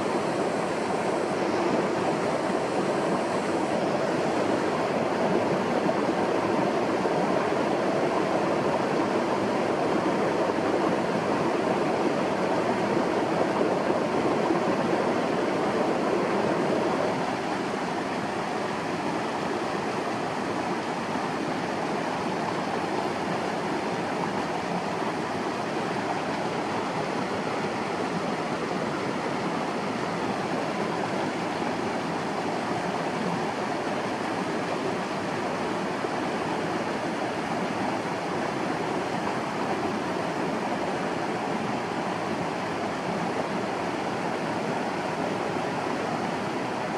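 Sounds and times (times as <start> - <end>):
rushing water: 0.0 - 46.9.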